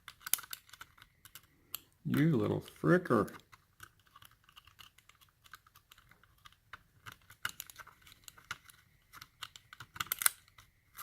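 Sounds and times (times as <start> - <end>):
small hand tool clicking on lock: 0.0 - 2.8, 3.4 - 11.0.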